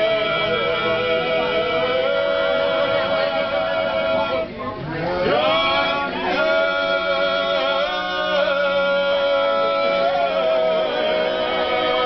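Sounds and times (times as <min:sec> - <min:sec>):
men singing unaccompanied: 0:00.0 - 0:12.0.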